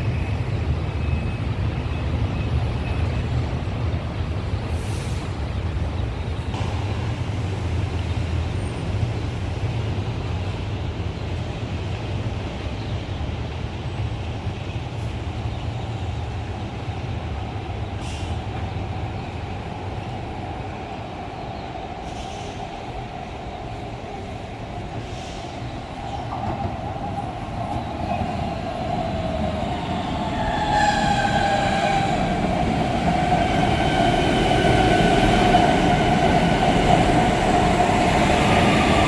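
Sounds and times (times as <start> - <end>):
train rumbling: 0.0 - 39.0.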